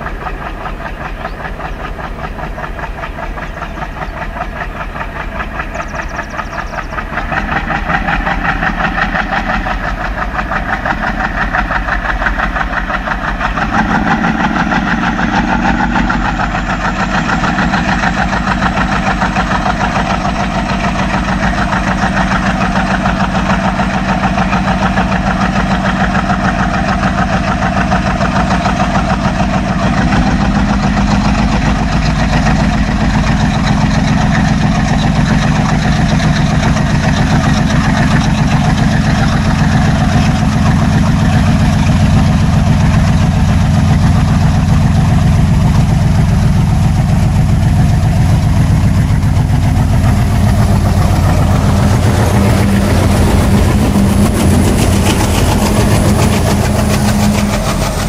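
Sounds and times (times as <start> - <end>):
diesel locomotives chugging: 0.0 - 58.0.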